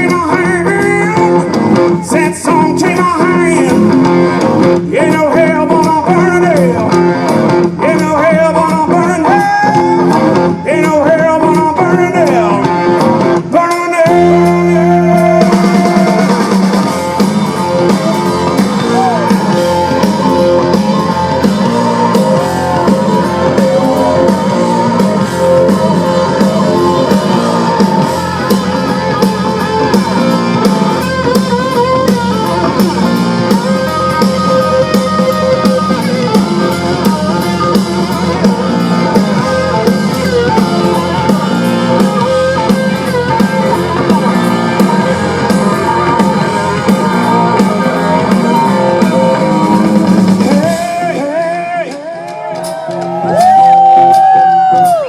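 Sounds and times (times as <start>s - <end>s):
drums bass and keys: 0.0s - 55.0s
electric guitar bending notes: 0.0s - 55.0s.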